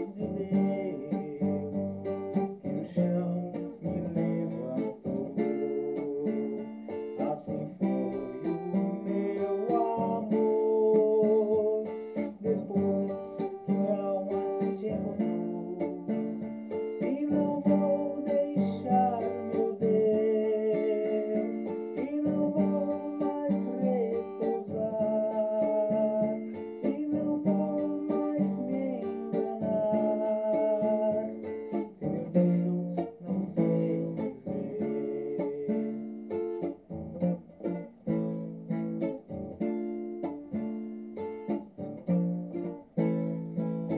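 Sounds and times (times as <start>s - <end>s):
acoustic guitar music: 0.0s - 43.9s.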